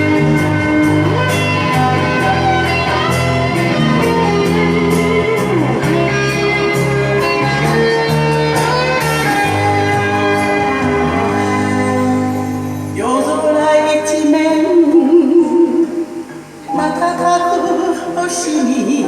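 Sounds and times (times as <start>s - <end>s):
steady bass accompaniment: 0.0s - 18.4s
guitar-led ballad backing track: 0.0s - 19.0s.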